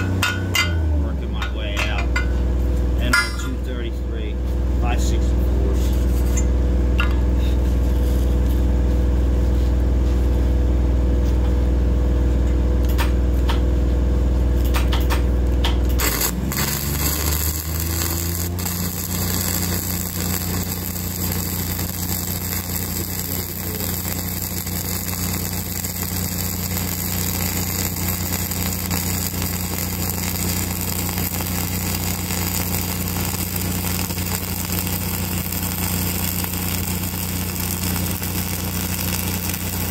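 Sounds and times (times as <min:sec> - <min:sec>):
welding arc crackling and sizzling: 0:00.0 - 0:06.6, 0:14.3 - 0:39.9
welding machine engine humming: 0:00.0 - 0:39.9.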